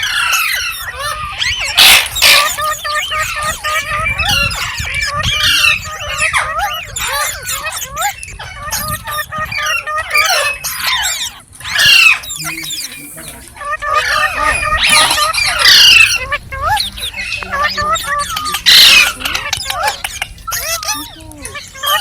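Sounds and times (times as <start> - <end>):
parrot squawk: 0.0 - 22.0
parrots chattering: 0.0 - 22.0.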